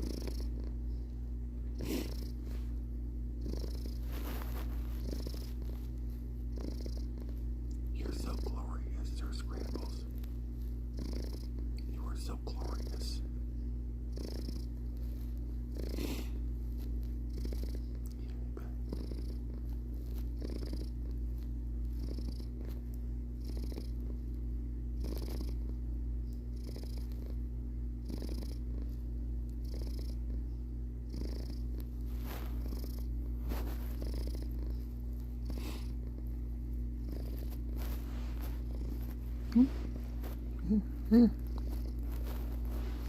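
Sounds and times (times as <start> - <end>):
cat purring: 0.0 - 43.0.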